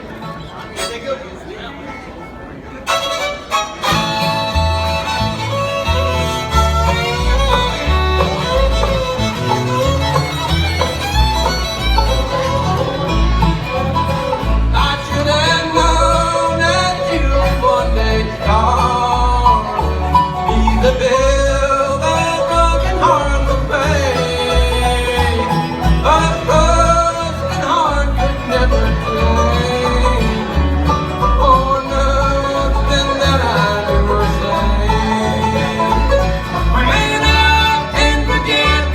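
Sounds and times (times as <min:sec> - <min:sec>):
fiddle: 0:00.0 - 0:38.9
guitar: 0:02.8 - 0:38.9
banjo: 0:02.9 - 0:38.9
upright bass: 0:03.8 - 0:38.9.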